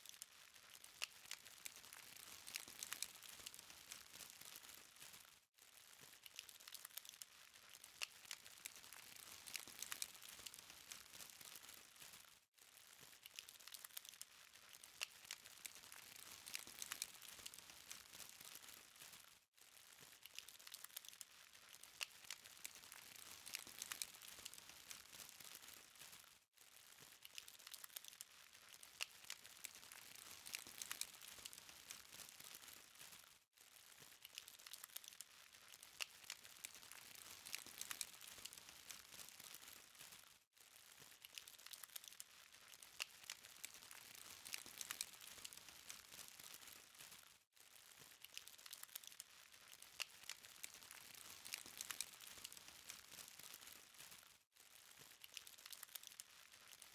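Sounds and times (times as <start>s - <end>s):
charcoal fire crackling: 0.0s - 56.9s.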